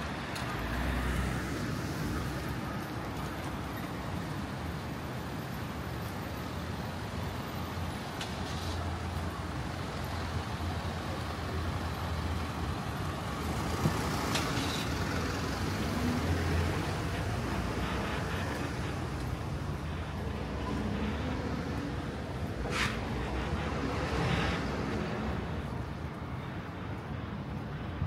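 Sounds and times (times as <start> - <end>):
heavy vehicle engine running: 0.0 - 28.0
road traffic: 0.0 - 28.0.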